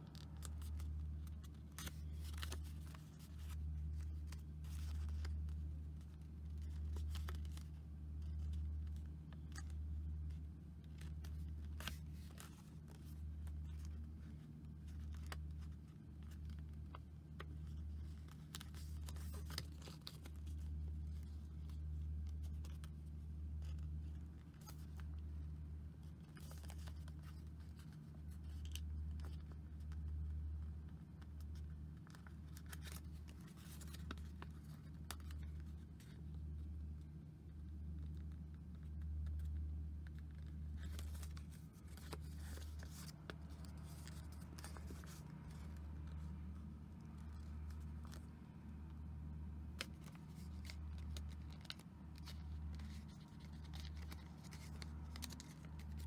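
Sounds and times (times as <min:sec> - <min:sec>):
paper folding and crinkling: 0:00.0 - 0:56.0.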